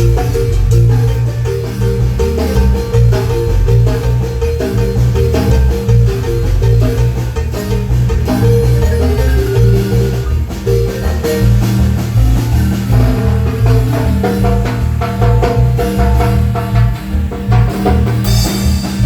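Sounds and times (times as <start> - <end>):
drums: 0.0 - 19.0
heavy bass line: 0.0 - 19.0
marimba mallet runs: 0.0 - 19.0.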